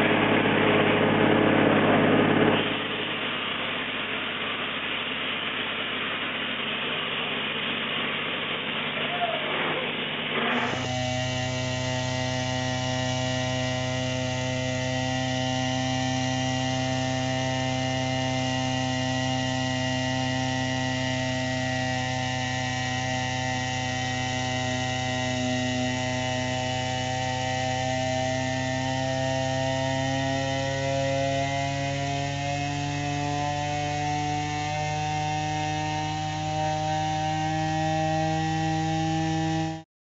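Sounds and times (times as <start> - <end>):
machine hum with fixed tones: 0.0 - 39.8.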